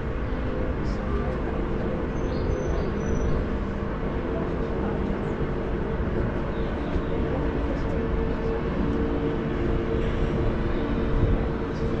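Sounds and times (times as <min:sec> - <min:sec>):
machinery hum: 0:00.0 - 0:12.0
ship engine low rumble: 0:00.0 - 0:12.0.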